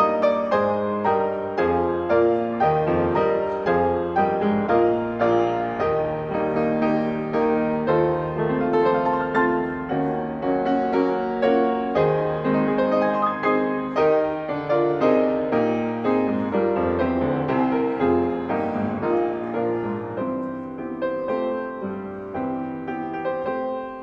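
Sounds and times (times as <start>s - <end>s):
slow solo piano piece: 0.0s - 24.0s.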